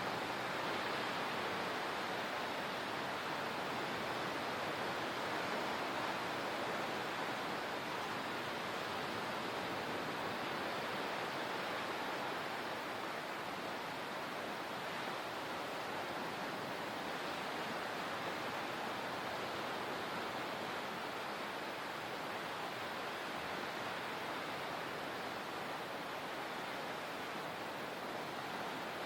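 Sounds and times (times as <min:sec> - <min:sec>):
water rushing: 0:00.0 - 0:29.0.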